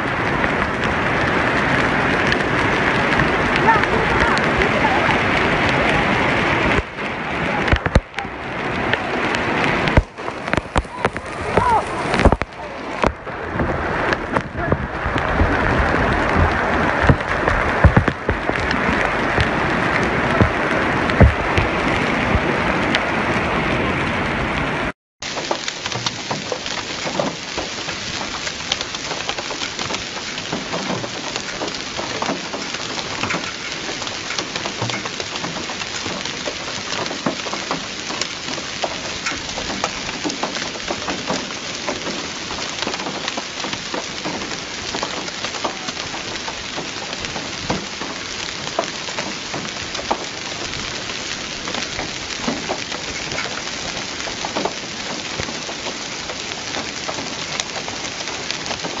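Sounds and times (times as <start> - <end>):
heavy rain on standing water: 0.0 - 59.0.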